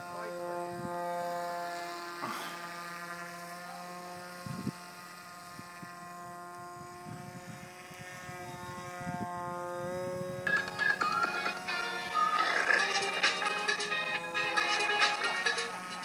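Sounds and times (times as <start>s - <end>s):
model aircraft motor buzzing whine: 0.0s - 16.0s.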